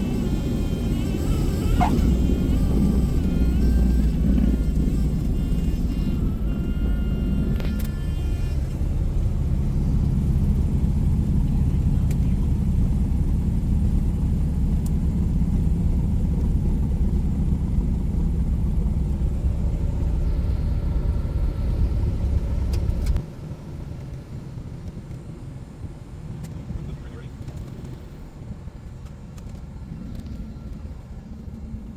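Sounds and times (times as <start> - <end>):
airplane engine and propeller drone: 0.0 - 31.9.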